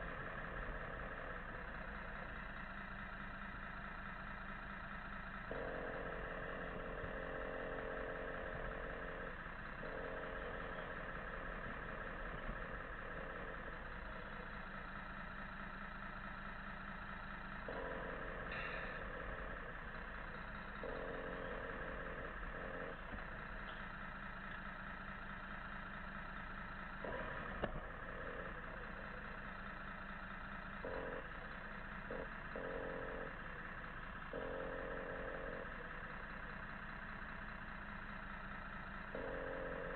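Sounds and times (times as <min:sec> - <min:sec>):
hum: 0:00.0 - 0:39.9
rc truck engine-like drone: 0:00.0 - 0:39.9.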